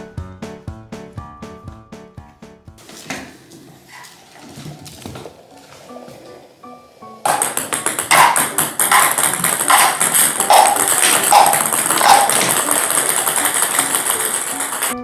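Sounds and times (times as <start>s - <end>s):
background music with steady beat: 0.0s - 3.2s, 5.7s - 15.0s.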